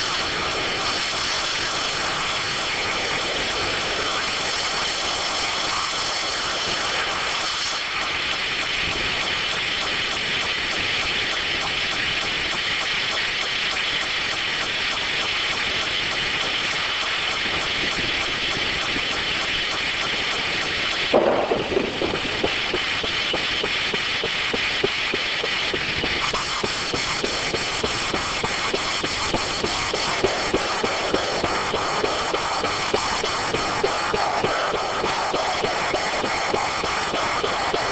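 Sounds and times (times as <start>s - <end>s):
circular saw whine: 0.0s - 37.9s.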